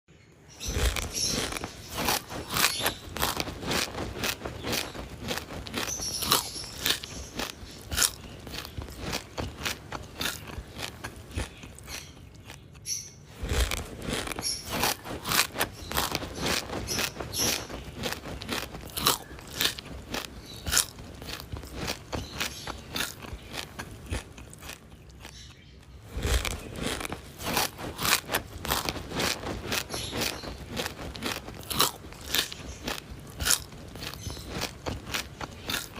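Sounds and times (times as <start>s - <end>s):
bird beak nibbling and crunching: 0.5s - 35.9s.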